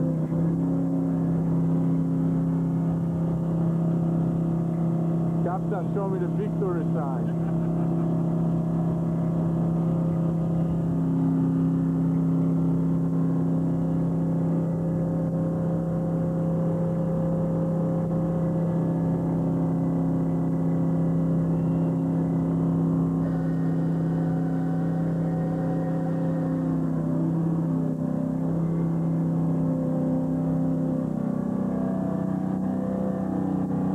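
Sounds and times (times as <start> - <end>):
diesel engine droning: 0.0 - 33.9
higher hum: 0.0 - 33.9.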